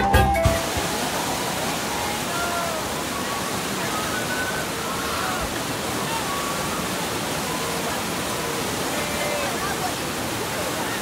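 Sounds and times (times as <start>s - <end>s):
roar of whitewater rapids: 0.6s - 11.0s.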